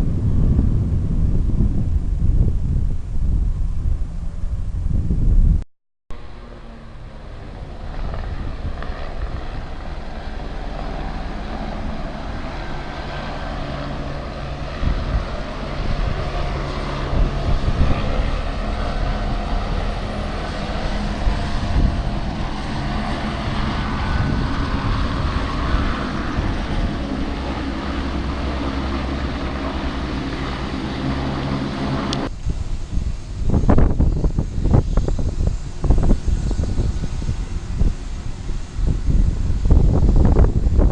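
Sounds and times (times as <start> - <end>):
airplane engine drone: 0.0 - 40.9.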